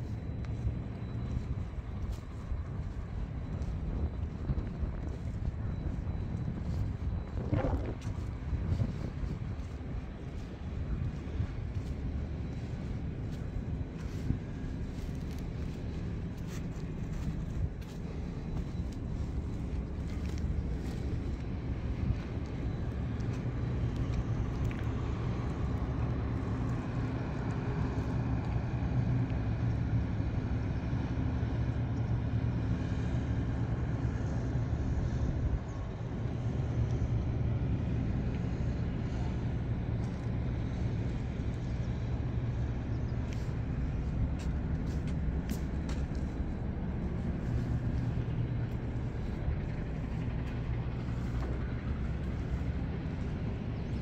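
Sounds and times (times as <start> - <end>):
large engine humming: 0.0 - 54.0.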